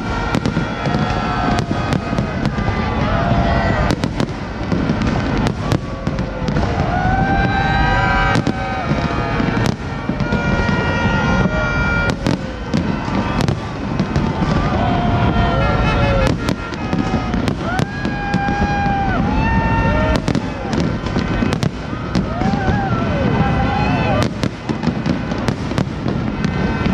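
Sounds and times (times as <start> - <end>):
crowd din: 0.0 - 26.9
fireworks bursting: 0.0 - 26.9.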